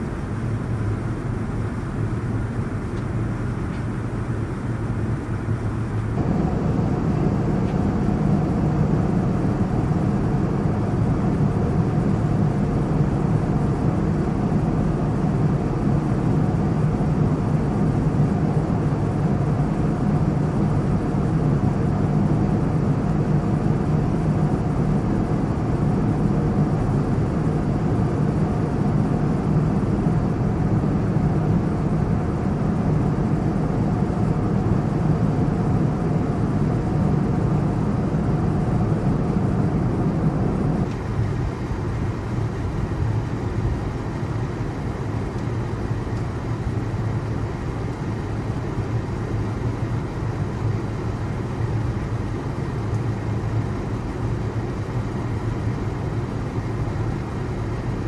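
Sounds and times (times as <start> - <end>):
airliner engine hum: 0.0 - 58.0.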